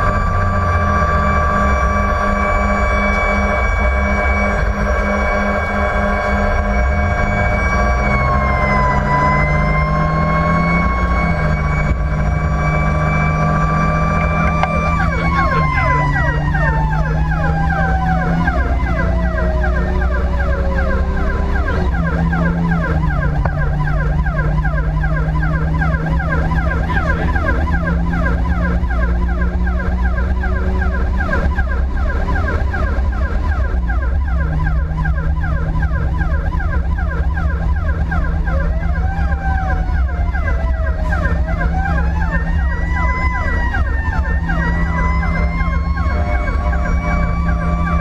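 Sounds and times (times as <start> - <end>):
electronic siren yelping: 0.0 - 48.0
engine and road noise: 0.0 - 48.0
siren wailing: 0.0 - 48.0.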